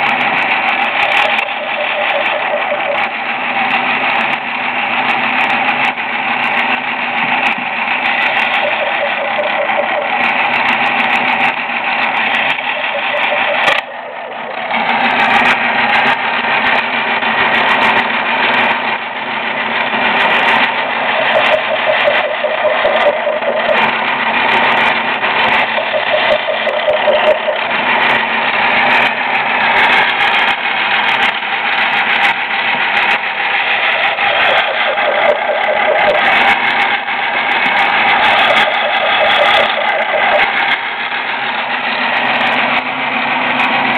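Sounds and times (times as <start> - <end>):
drill press motor running: 0.0 - 43.9.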